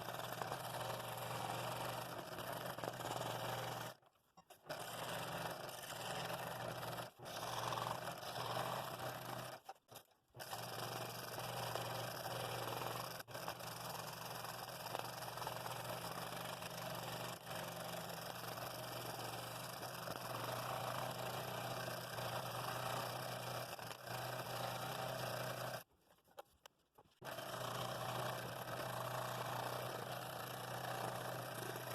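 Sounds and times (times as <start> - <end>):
scroll saw cutting wood: 0.0 - 31.9.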